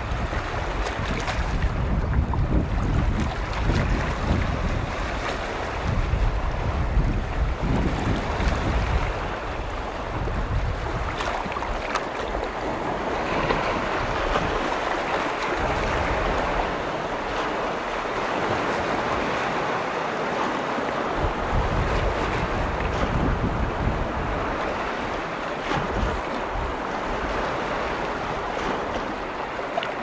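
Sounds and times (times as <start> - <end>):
waves breaking on shore: 0.0 - 30.0
wind on microphone: 0.0 - 30.0.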